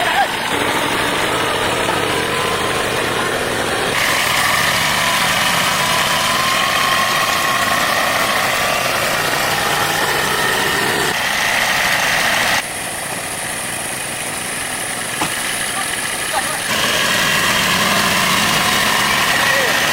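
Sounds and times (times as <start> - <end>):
engine running steadily: 0.0 - 19.9.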